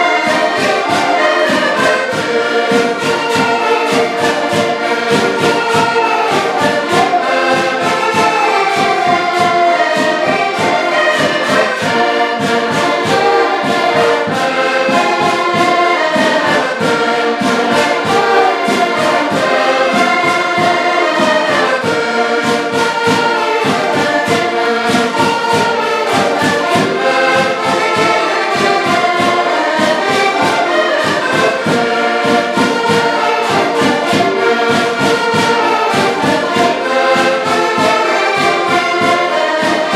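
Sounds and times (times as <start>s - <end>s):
button accordions playing folk tune: 0.0s - 39.9s.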